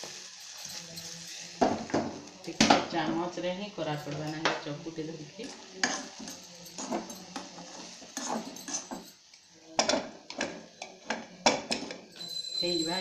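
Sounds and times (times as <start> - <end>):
metal cookware clinking and scraping: 0.0 - 2.8, 3.8 - 4.7, 5.4 - 13.0.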